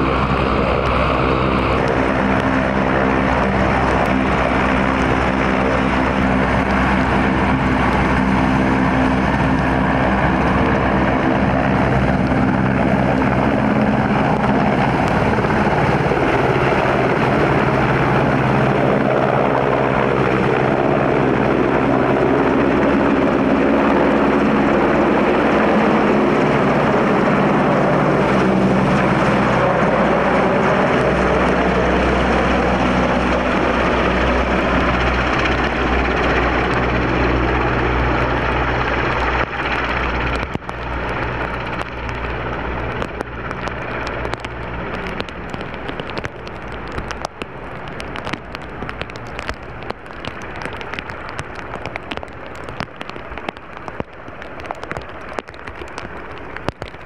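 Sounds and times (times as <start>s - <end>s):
helicopter engines and rotor: 0.0s - 57.0s.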